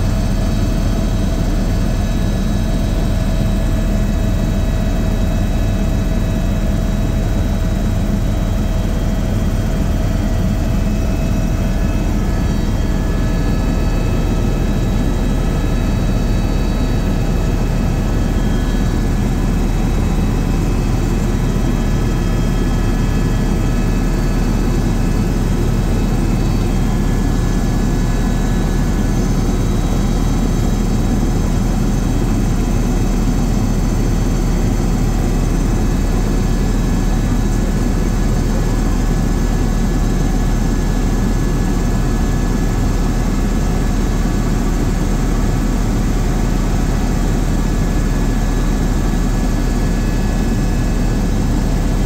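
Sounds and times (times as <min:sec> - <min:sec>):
steady whine: 0:00.0 - 0:40.0, 0:46.1 - 0:52.0
helicopter rotor drone: 0:00.0 - 0:52.0.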